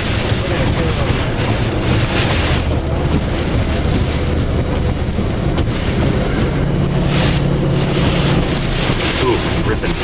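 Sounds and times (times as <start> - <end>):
low engine hum: 0.0 - 10.0
strong wind over vehicle: 0.0 - 10.0.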